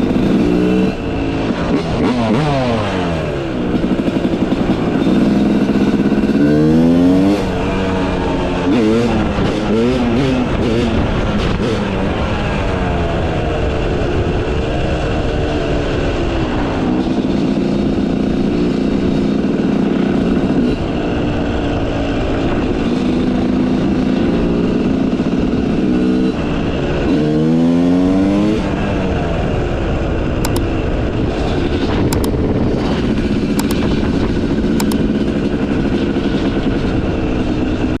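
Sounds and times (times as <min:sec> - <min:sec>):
motocross engine revving: 0:00.0 - 0:14.5, 0:15.2 - 0:38.0.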